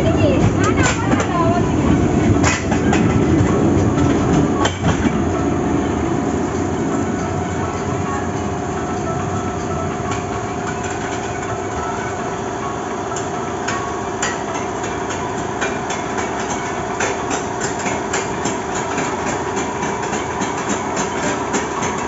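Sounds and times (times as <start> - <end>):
roller coaster train rumbling: 0.0 - 22.0
wheels clacking over rails: 0.0 - 22.0.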